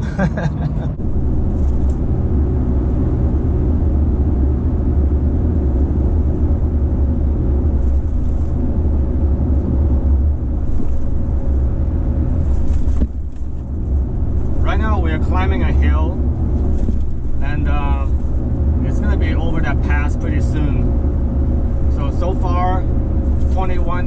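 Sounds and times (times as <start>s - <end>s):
in-cabin road rumble: 0.0s - 24.0s.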